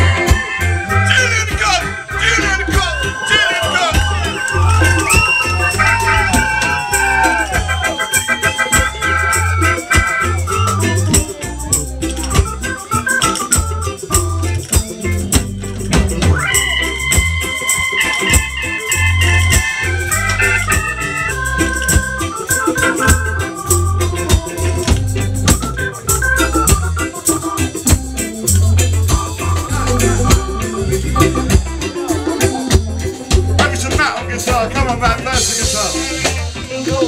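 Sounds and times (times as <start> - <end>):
live ska band playing: 0.0 - 37.0
tambourine shaking: 3.4 - 34.1.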